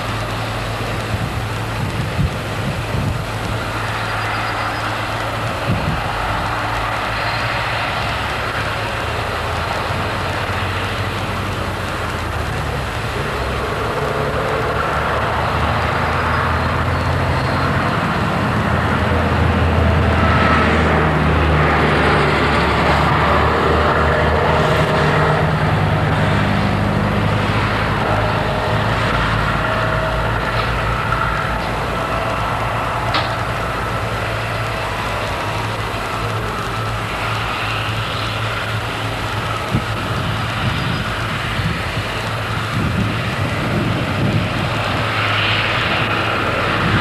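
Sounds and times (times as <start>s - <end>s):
tractors droning: 0.0s - 47.0s.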